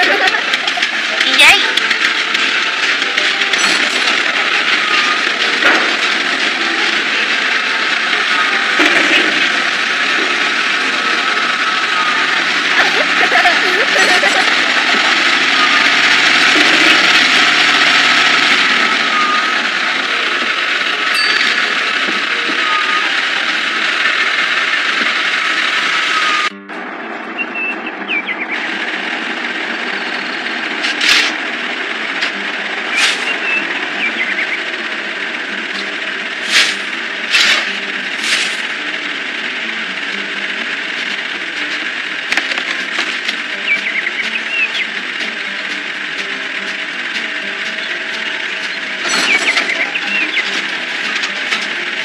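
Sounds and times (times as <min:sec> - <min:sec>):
hissing construction machine noise: 0:00.0 - 0:52.0.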